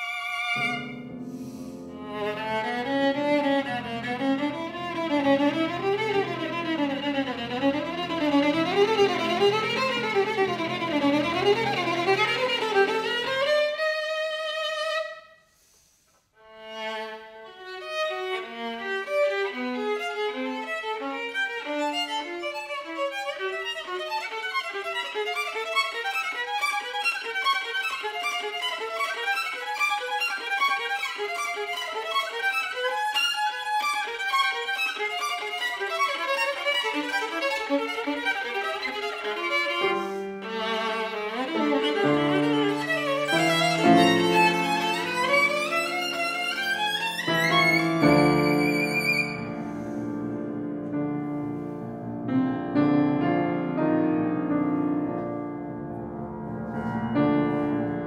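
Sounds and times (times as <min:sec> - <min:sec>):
solo violin: 0:00.0 - 0:58.0
piano accompaniment: 0:00.4 - 0:14.9, 0:16.6 - 0:58.0.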